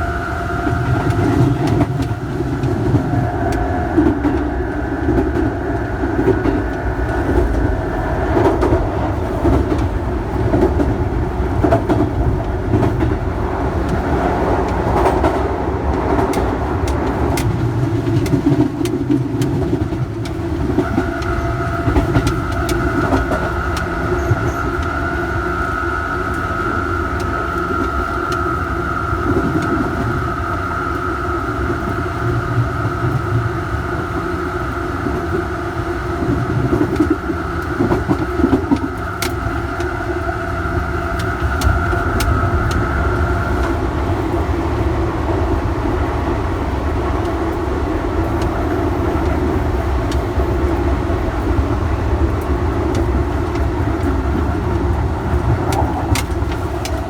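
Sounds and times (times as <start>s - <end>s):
high whine of traction equipment: 0.0s - 18.3s, 20.8s - 57.0s
train running gear rumble: 0.0s - 57.0s.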